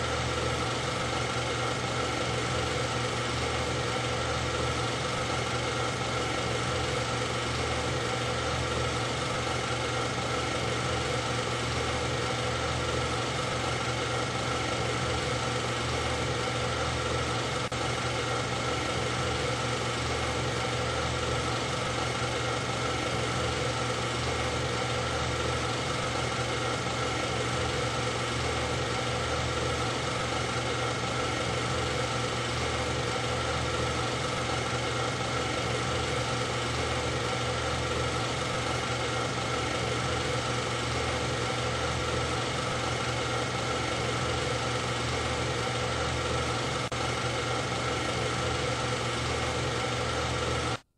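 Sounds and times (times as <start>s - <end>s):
steady mechanical hum: 0.0s - 50.8s.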